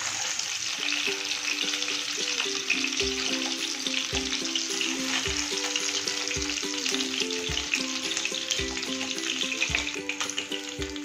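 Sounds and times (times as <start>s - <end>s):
hot oil sizzling in a pan: 0.0s - 11.0s
background music with a beat: 1.0s - 11.0s.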